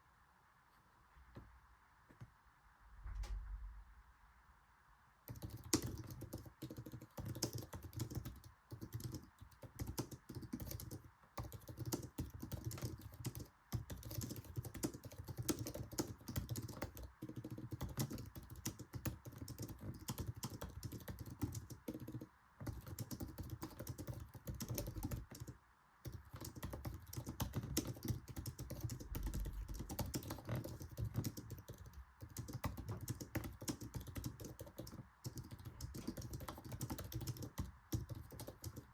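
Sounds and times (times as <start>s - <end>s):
fast keyboard typing: 5.3s - 38.9s.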